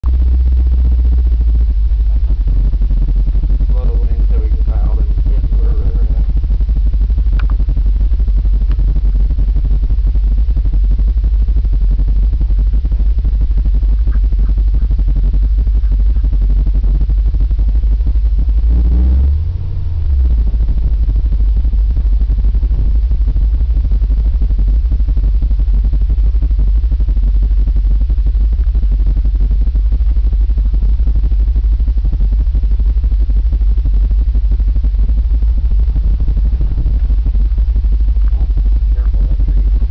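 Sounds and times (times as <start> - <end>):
engine rumble inside cab: 0.0 - 39.9.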